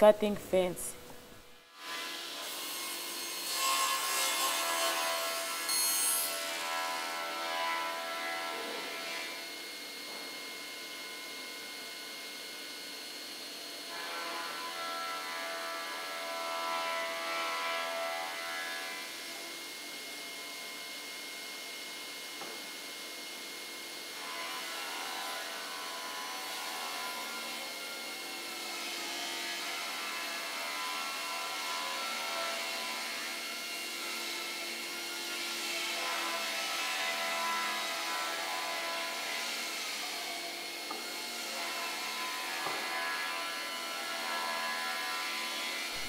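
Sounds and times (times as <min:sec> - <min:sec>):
saw cutting wood: 0:01.5 - 0:10.8, 0:12.4 - 0:46.0.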